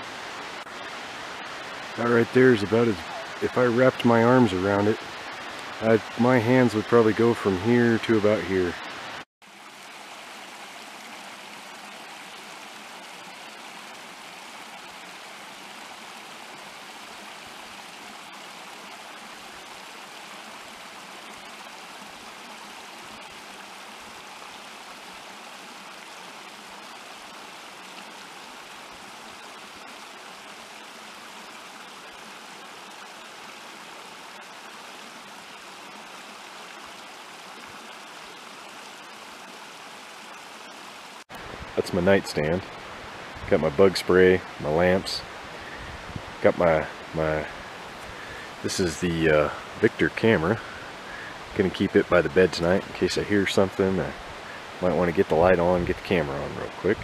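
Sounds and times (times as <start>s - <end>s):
creek splashing over rocks: 0.0s - 57.0s.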